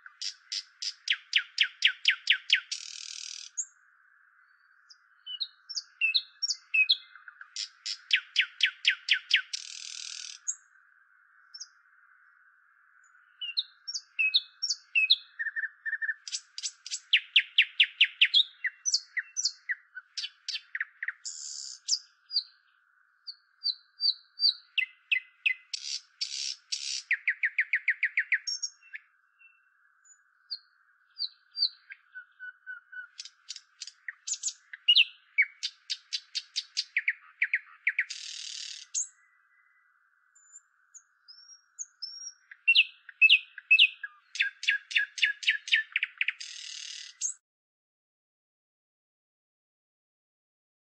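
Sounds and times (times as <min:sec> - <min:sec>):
nightingale singing: 0:00.0 - 0:12.1, 0:12.9 - 0:47.4.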